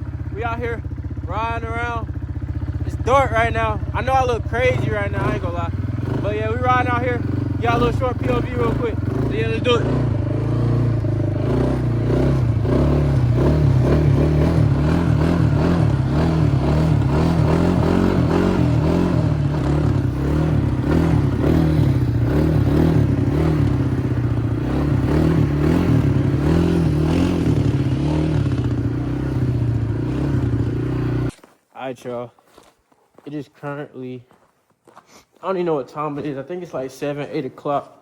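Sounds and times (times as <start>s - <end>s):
atv engine revving: 0.0s - 31.4s.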